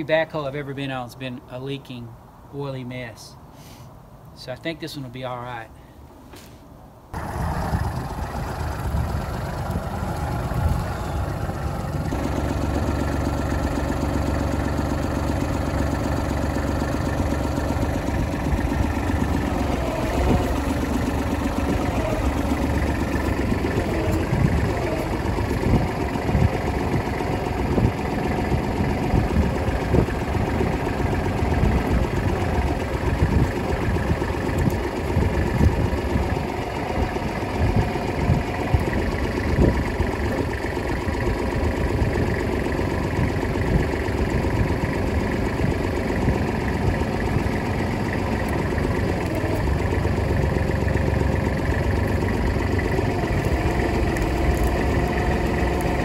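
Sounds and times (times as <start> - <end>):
tractor diesel engine running: 7.0 - 56.0.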